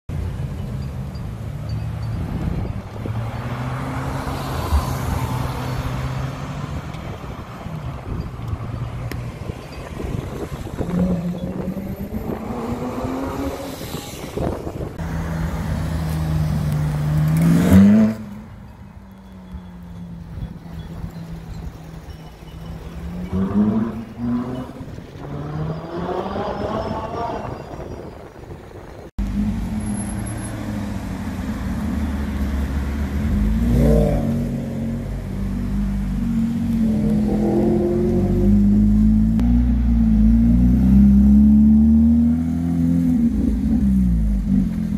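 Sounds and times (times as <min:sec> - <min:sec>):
faint street noise: 0:00.1 - 0:44.9.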